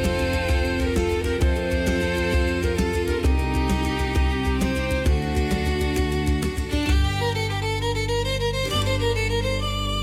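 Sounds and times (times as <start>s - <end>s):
steady beat: 0.0s - 9.3s
bowed fiddle folk tune: 0.0s - 10.0s.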